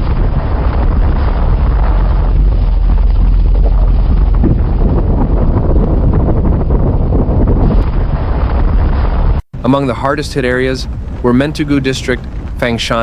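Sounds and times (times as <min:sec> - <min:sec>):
steady rushing noise: 0:00.0 - 0:13.0
wind buffeting on microphone: 0:00.0 - 0:13.0.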